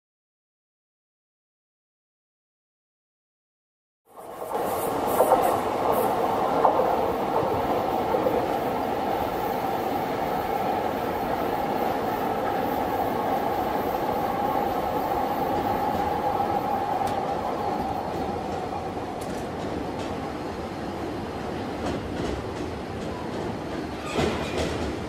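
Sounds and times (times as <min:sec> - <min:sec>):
train wheels running on rails: 0:04.2 - 0:25.0.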